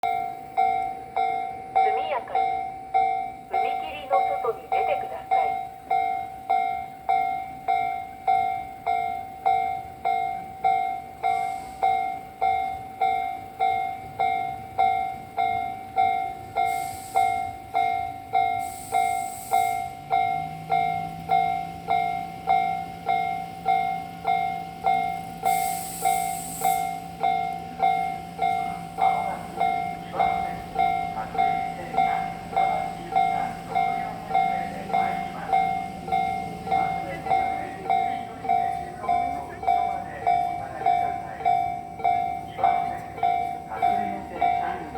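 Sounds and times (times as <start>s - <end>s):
level-crossing warning bell ringing: 0.0s - 44.9s
low hum of passing train: 0.0s - 44.9s.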